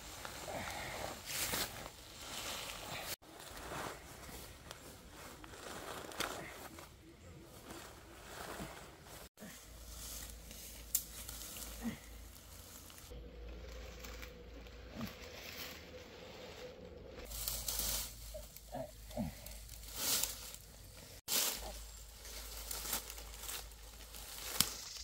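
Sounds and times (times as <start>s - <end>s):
rustling of ferns and dry leaves: 0.0s - 25.0s.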